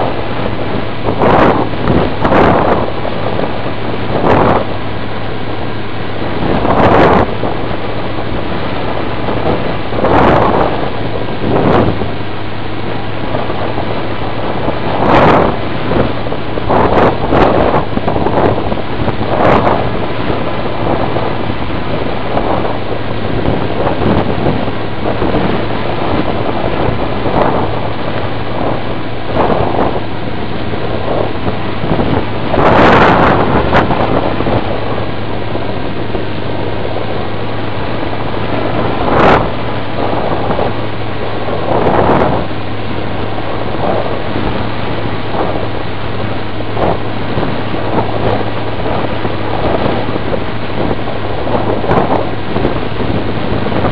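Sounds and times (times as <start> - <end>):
steady hum: 0.0 - 53.9
wind rushing over microphone: 0.0 - 53.9.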